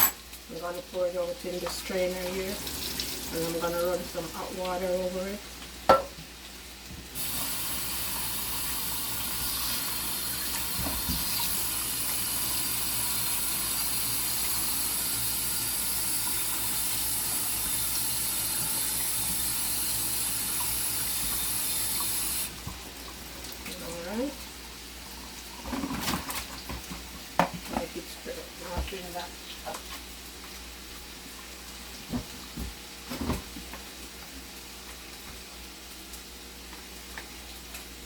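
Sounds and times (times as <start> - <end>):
tap water running: 0.0 - 38.0.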